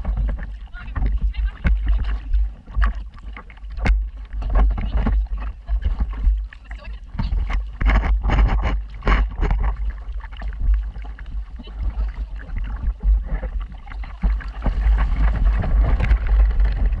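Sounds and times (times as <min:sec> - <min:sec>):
water splashing along boat hull: 0:00.0 - 0:17.0
wind buffeting microphone: 0:00.0 - 0:17.0.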